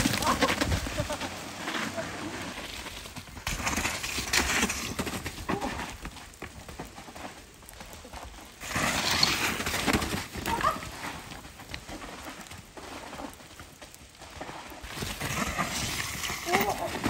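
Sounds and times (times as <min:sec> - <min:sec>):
bike tyres in wet mud: 0:00.0 - 0:17.0
bikes rattling and knocking: 0:00.0 - 0:17.0.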